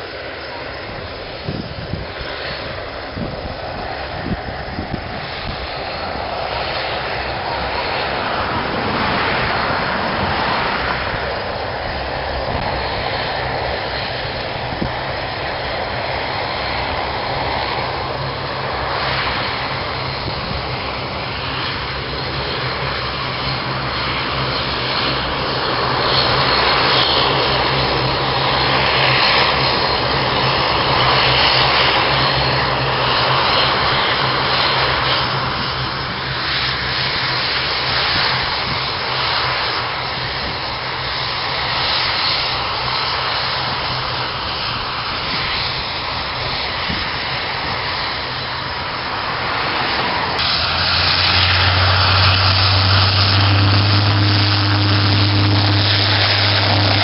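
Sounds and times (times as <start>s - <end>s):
turboprop airliner taxiing drone: 0.0s - 57.0s.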